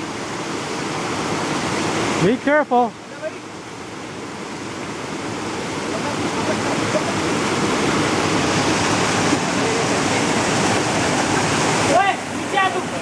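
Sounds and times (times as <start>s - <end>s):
waterfall cascading over rocks: 0.0s - 13.0s.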